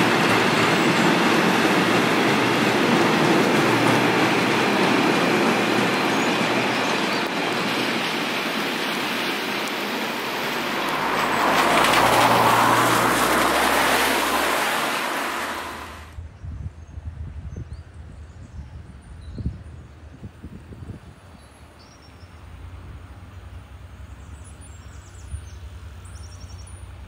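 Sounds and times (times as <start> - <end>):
train passing at speed: 0.0 - 16.2, 20.0 - 27.0.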